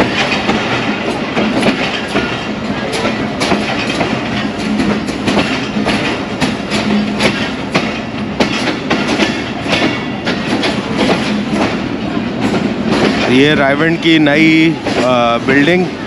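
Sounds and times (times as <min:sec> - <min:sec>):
train rumble: 0:00.0 - 0:16.0
train wheels clacking on rail joints: 0:00.0 - 0:16.0.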